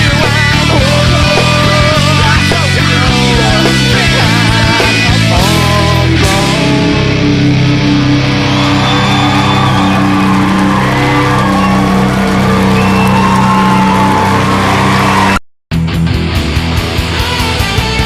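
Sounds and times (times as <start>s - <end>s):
distorted electric guitars: 0.0s - 18.0s
drums: 0.0s - 18.0s.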